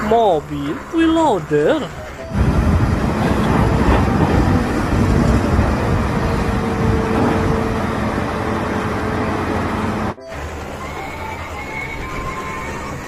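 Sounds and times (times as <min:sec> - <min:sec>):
loader engine rumbling: 0:00.0 - 0:13.0.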